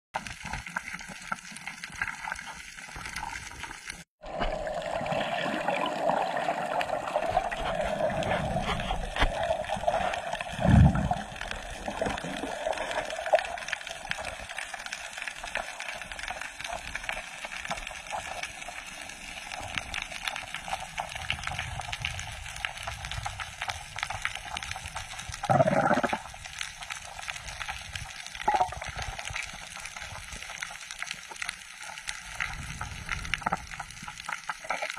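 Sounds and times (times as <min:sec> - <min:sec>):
underwater water rushing: 0:00.2 - 0:34.9.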